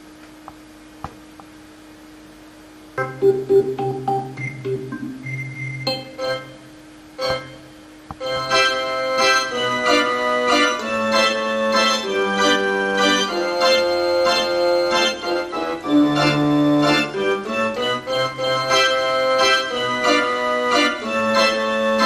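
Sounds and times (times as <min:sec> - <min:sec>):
keyboard melody over chords: 0:03.0 - 0:22.0.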